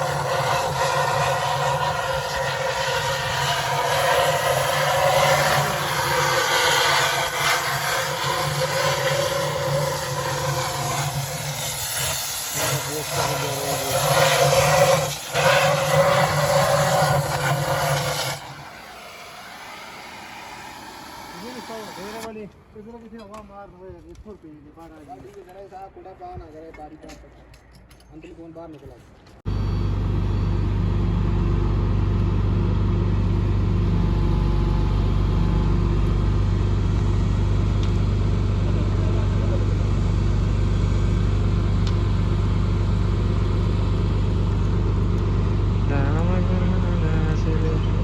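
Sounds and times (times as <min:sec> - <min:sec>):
machine humming and rushing: 0:00.0 - 0:22.3, 0:29.5 - 0:48.0.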